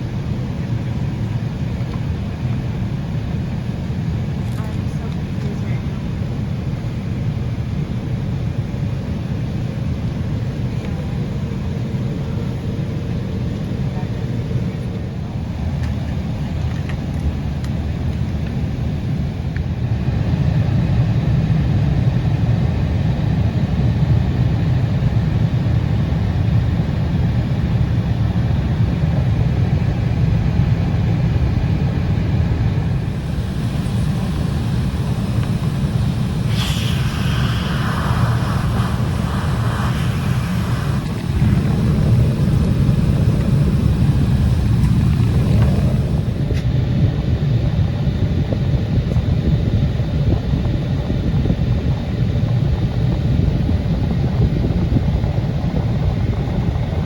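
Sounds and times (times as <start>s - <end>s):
jet engines and airflow rumble: 0.0s - 57.0s.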